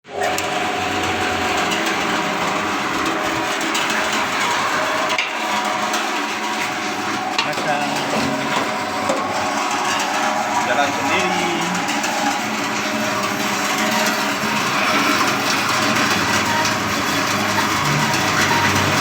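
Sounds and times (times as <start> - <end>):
machine motor hum: 0.1 - 19.0
clattering knocks and clicks: 0.2 - 19.0.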